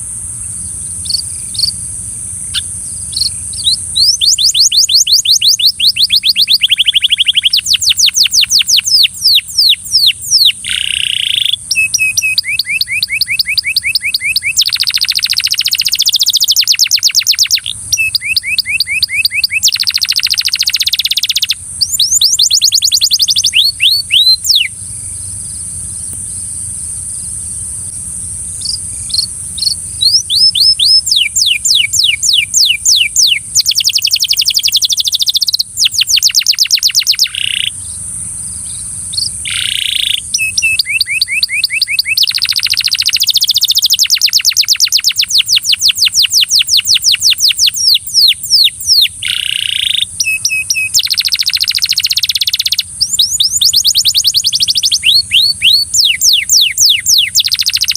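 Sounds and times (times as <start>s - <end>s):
canary singing rapid rolls: 0.0s - 27.7s, 28.4s - 57.9s
steady high hiss: 0.0s - 44.3s, 44.9s - 57.9s.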